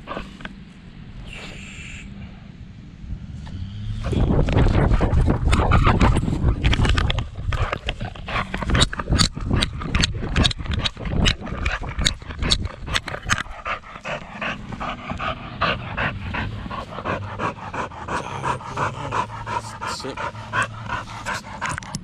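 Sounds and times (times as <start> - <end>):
dog panting: 4.1 - 22.0.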